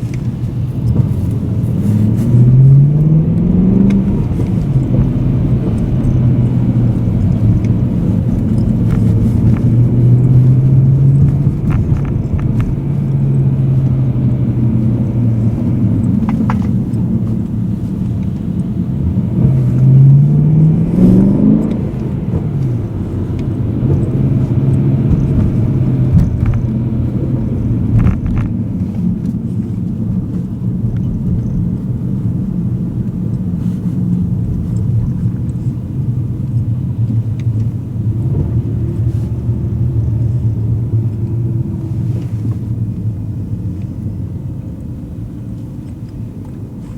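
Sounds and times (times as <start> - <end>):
car engine running: 0.0 - 46.9.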